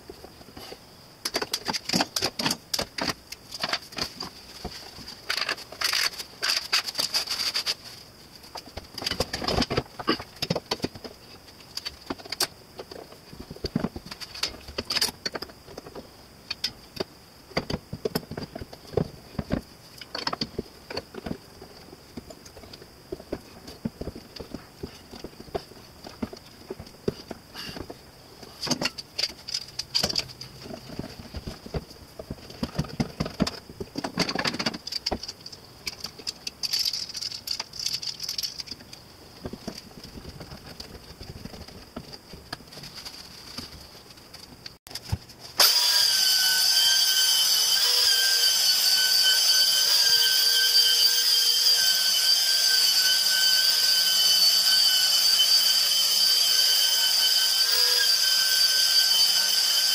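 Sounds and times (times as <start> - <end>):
faint high whine: 0.0 - 59.9.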